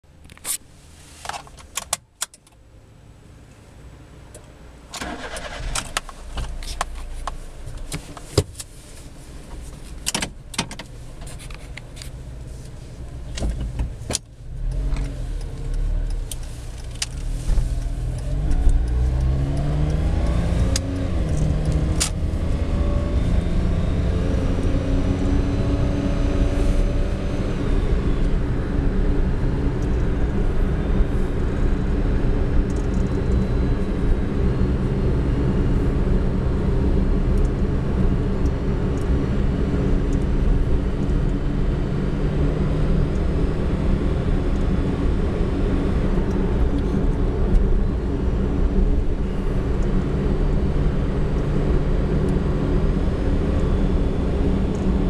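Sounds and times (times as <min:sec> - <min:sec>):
car engine starting and accelerating: 0:05.0 - 0:09.8, 0:12.1 - 0:55.0.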